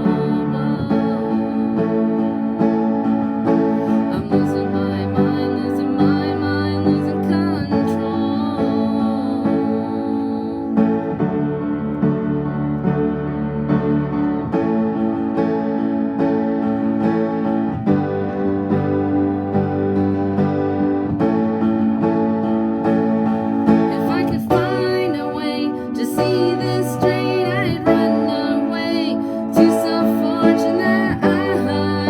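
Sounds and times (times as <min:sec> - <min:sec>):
piano playing chords: 0:00.0 - 0:32.0.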